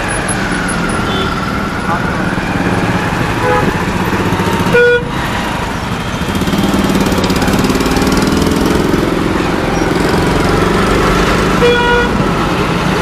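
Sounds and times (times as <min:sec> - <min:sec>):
motorcycle engine running: 0:00.6 - 0:13.0.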